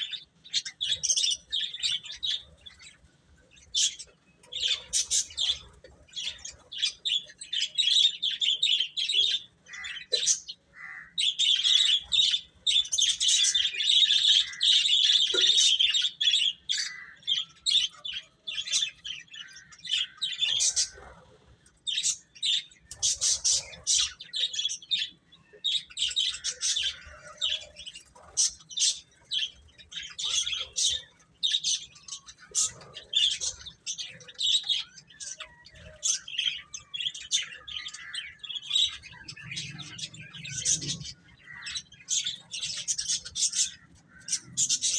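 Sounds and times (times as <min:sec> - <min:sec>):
baby chicks peeping: 0:00.0 - 0:44.9.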